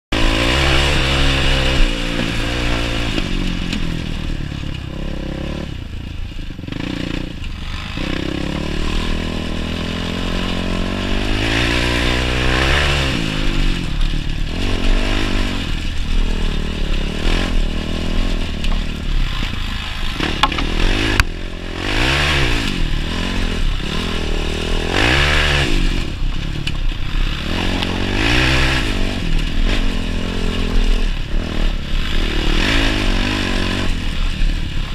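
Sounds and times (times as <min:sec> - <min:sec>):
quad engine revving: 0:00.1 - 0:05.9, 0:06.6 - 0:34.9.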